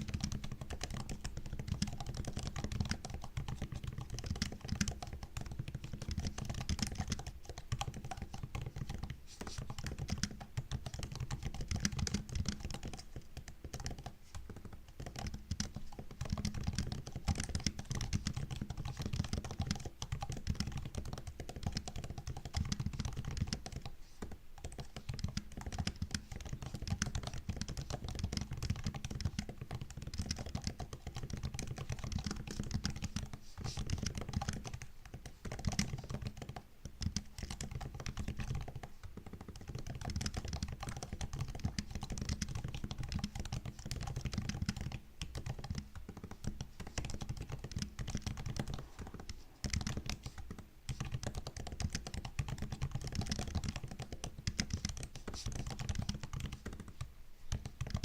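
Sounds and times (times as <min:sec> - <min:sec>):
typing on laptop keyboard: 0:00.0 - 0:58.0.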